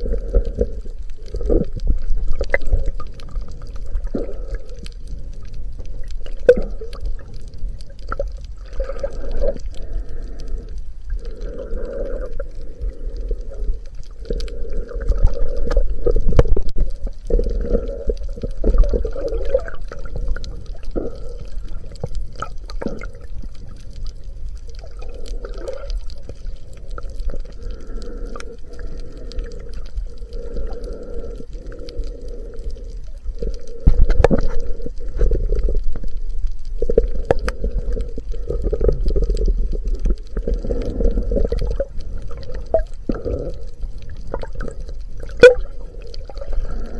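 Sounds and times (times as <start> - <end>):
breathing through a snorkel: 0.0 - 5.6, 6.2 - 36.1, 36.9 - 46.9
low rumble of moving water: 0.0 - 46.9.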